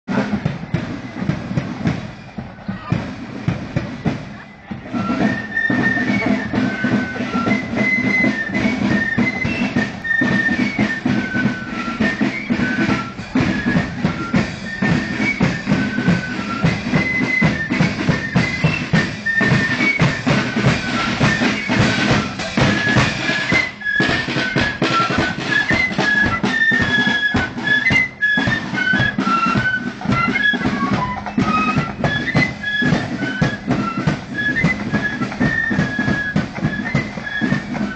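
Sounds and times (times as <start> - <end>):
flutes playing melody: 0.1 - 37.9
side drum and bass drum beats: 0.1 - 37.9.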